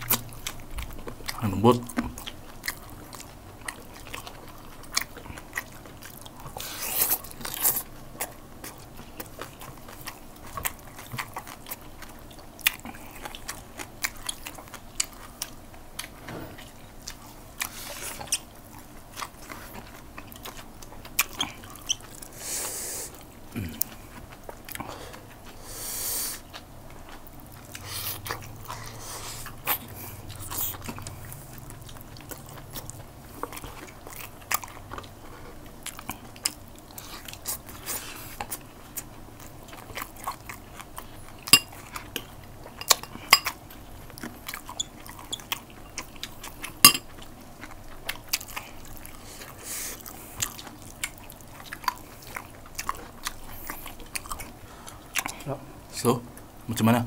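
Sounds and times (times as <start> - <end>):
chewing and lip-smacking: 0.0 - 22.4, 23.1 - 55.6.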